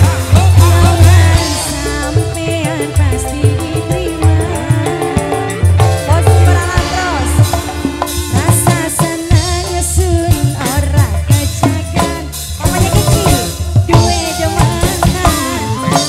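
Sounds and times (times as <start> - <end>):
drum kit steady beat: 0.0 - 16.0
woman singing: 0.0 - 16.0.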